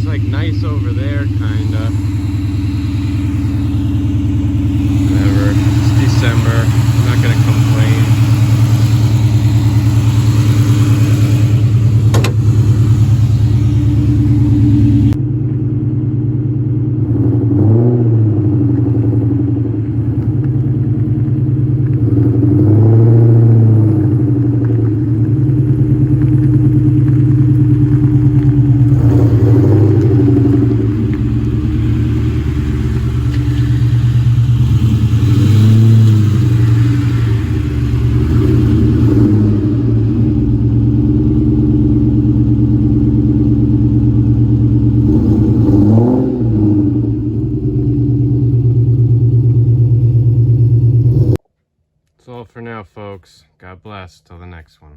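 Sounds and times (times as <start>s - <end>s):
car engine idling and revving: 0.0s - 51.4s.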